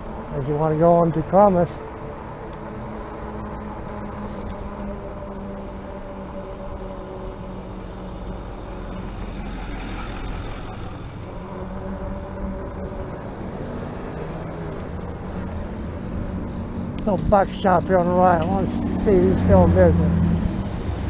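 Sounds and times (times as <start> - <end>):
bike riding rumble: 0.0 - 21.0.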